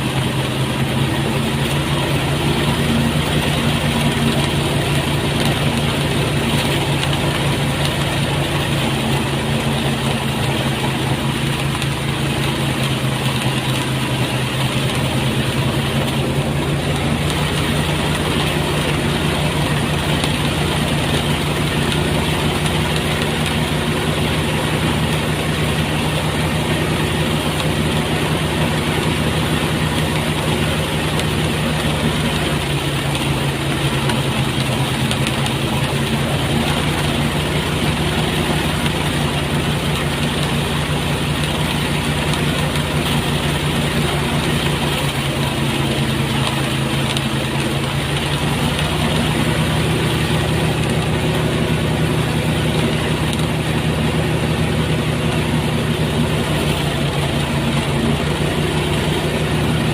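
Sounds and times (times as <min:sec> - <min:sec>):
threshing machine engine droning: 0:00.0 - 0:59.9.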